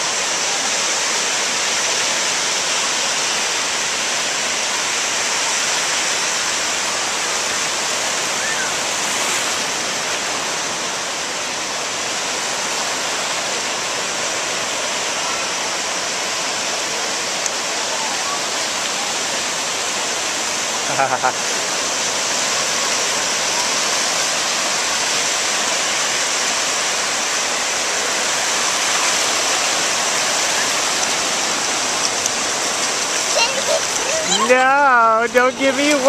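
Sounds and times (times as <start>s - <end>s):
ocean surf washing on beach: 0.0s - 36.0s.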